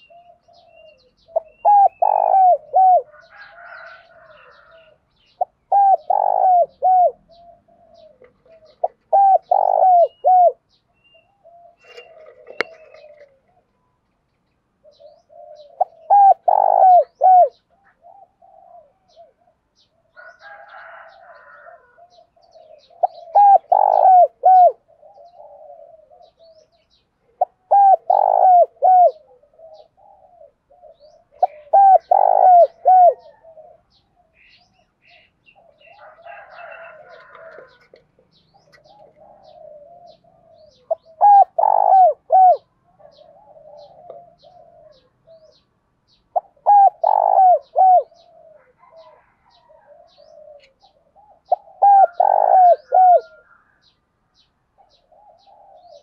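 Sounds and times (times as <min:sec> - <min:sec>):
soft low dove cooing: 0:00.0 - 0:14.1, 0:14.8 - 0:56.0
dove cooing song: 0:00.0 - 0:56.0.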